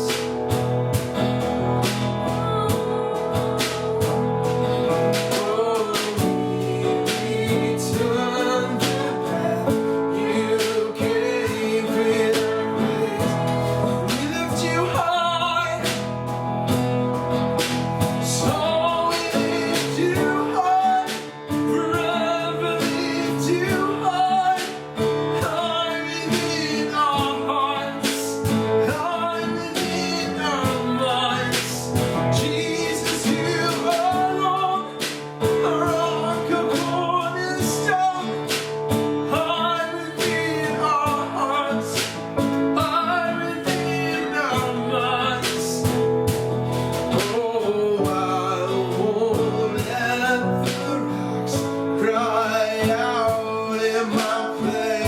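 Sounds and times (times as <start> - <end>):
steady beat: 0.0 - 51.9
guitar: 0.0 - 55.0
worship song singing: 0.0 - 55.0.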